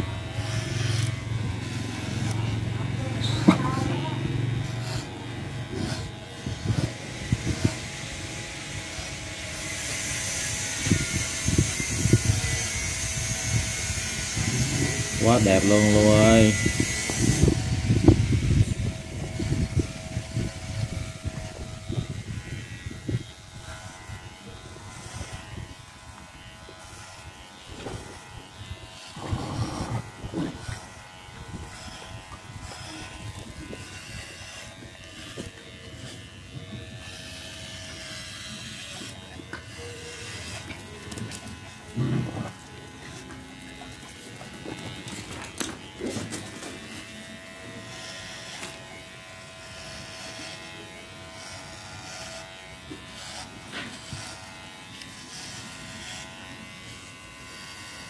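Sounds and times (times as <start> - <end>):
electric clippers humming: 0.0 - 58.0.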